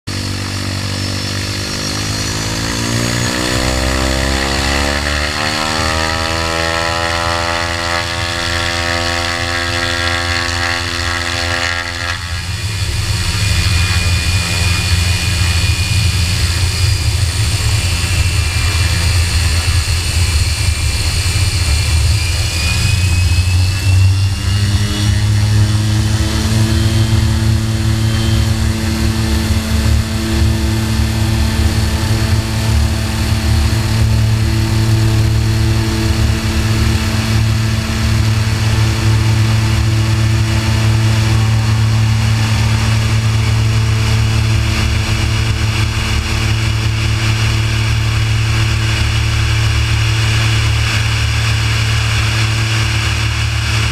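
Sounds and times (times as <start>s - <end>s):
propeller plane engine: 0.0s - 53.9s
faint high whine: 0.1s - 53.9s.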